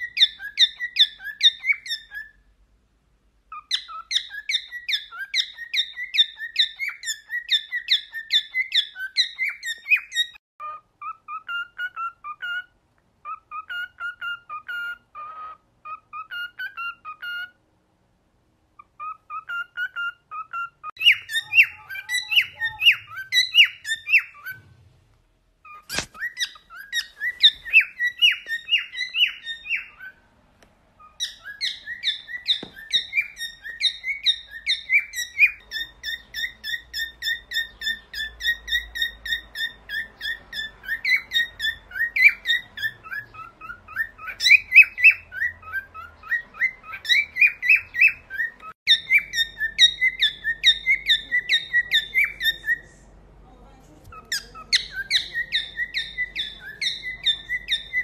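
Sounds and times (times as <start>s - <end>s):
cockatiels whistling: 0.0s - 2.4s, 3.5s - 17.6s, 18.8s - 24.7s, 25.6s - 30.2s, 31.0s - 52.9s, 54.1s - 58.0s.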